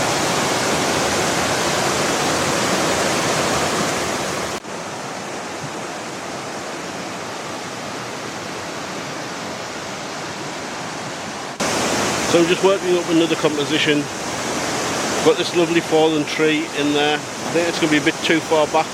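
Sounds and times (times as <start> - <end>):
waterfall rushing over boulders: 0.0 - 18.9.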